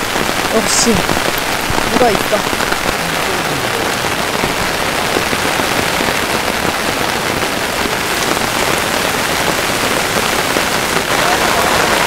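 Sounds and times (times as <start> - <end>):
rain on umbrella and leaves: 0.0 - 12.0.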